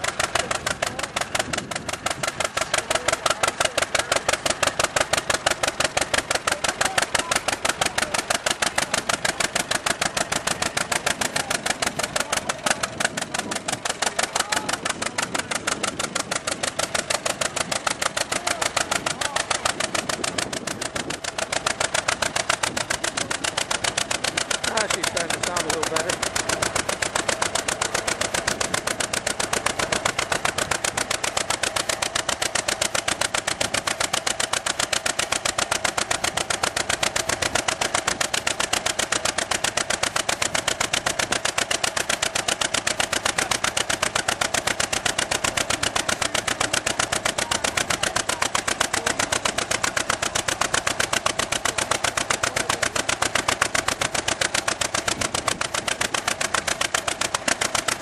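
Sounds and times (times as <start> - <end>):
tractor engine putt-putt: 0.0 - 58.0.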